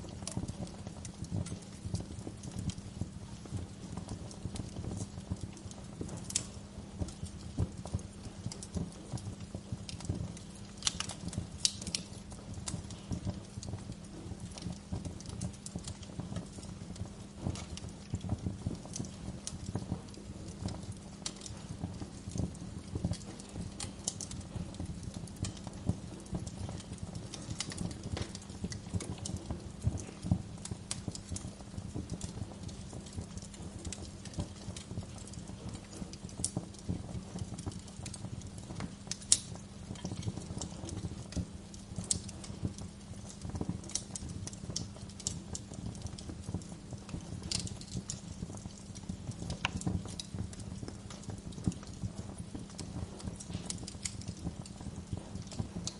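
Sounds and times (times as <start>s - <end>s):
fire snaps and pops: 0.0s - 55.9s
low rumble of flames: 0.0s - 55.9s.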